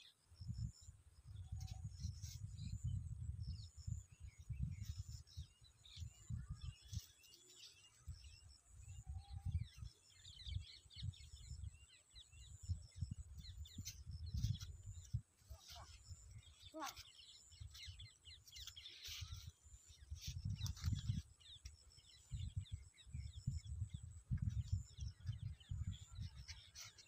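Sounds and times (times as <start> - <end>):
small birds chirping: 0.0 - 27.0
wind buffeting microphone: 0.4 - 7.1, 8.0 - 16.9, 17.5 - 27.0.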